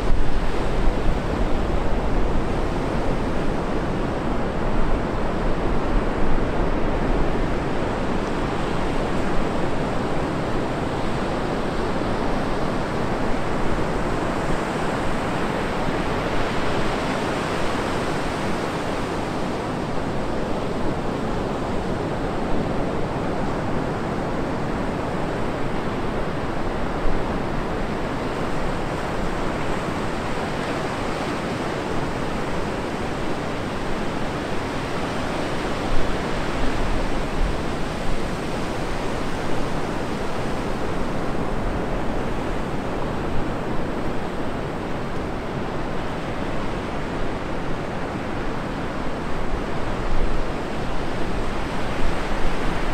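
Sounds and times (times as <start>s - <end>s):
surf breaking on a sandy beach: 0.0s - 52.9s.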